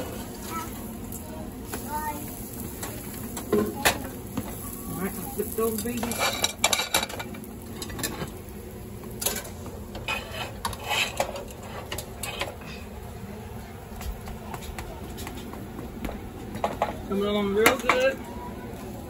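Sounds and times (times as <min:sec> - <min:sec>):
pancakes sizzling on griddle: 0:00.0 - 0:19.0.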